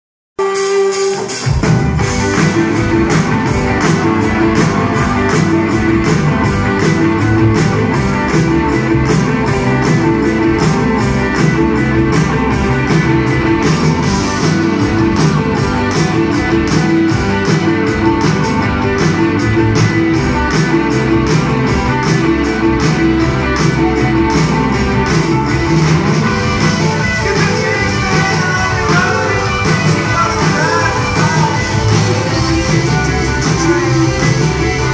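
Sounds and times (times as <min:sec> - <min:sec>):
rock band playing: 0:00.4 - 0:34.9.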